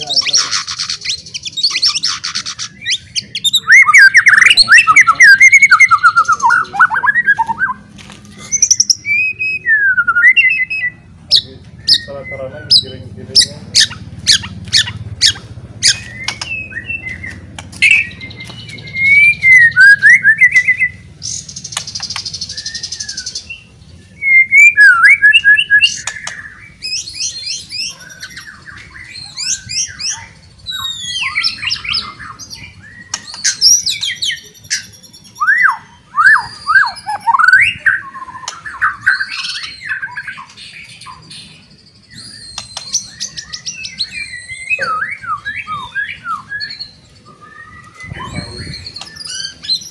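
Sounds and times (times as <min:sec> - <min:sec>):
bird singing whistles and trills: 0:00.0 - 0:49.9.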